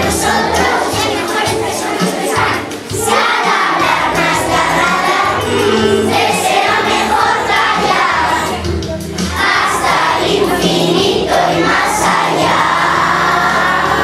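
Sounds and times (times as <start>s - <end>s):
children's choir singing: 0.0s - 14.0s
instrumental accompaniment: 0.0s - 14.0s.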